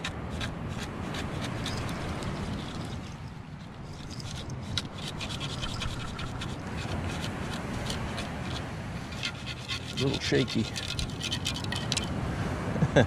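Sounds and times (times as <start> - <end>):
sand shaken through metal scoop: 0.0 - 12.1.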